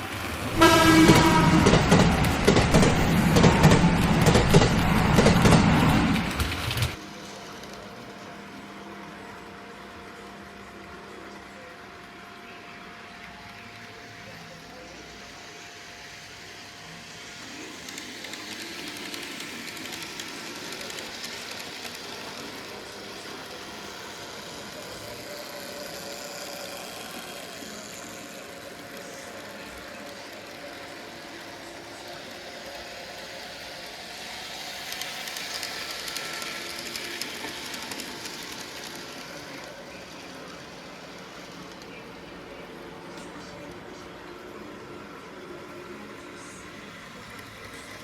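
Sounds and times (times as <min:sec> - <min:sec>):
model train motor whine: 0:00.0 - 0:48.0.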